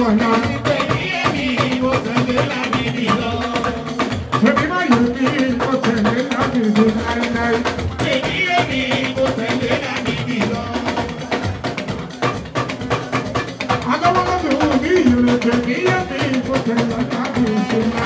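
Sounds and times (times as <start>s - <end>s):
man singing into a microphone: 0.0s - 11.5s, 13.7s - 18.0s
drums and percussion: 0.0s - 18.0s.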